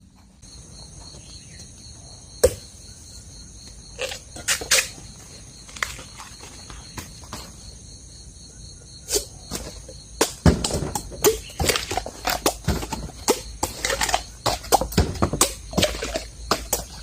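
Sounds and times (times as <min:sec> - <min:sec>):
insect chirring: 0:00.4 - 0:17.0.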